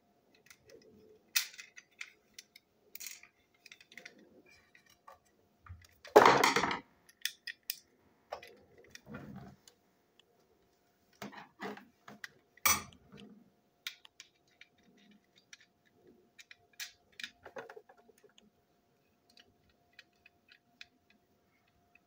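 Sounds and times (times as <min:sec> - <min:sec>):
plastic parts clicking and knocking: 0:00.3 - 0:09.7, 0:11.1 - 0:18.5, 0:19.2 - 0:22.0.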